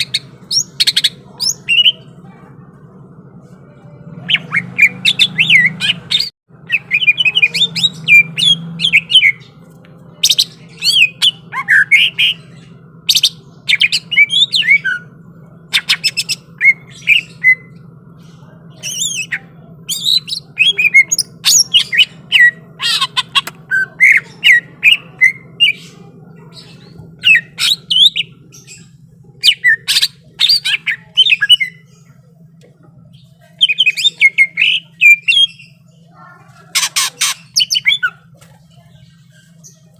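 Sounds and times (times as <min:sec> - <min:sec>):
faint low hum: 0:00.0 - 0:39.9
bird singing chattering and whistling: 0:04.2 - 0:17.8, 0:18.4 - 0:32.2, 0:33.0 - 0:39.9.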